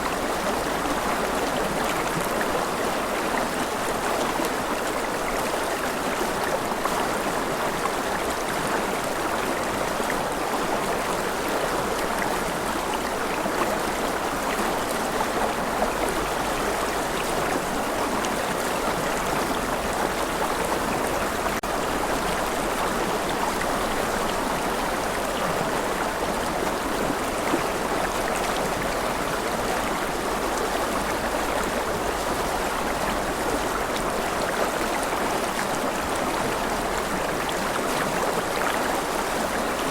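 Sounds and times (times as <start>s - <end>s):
steady wash of water: 0.0s - 39.9s.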